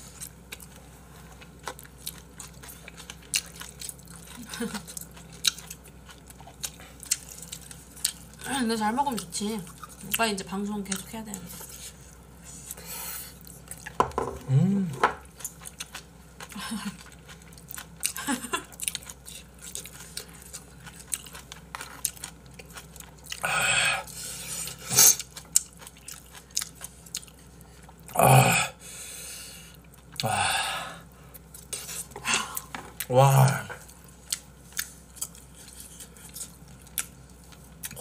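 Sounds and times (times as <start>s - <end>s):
people chewing: 0.0s - 38.0s.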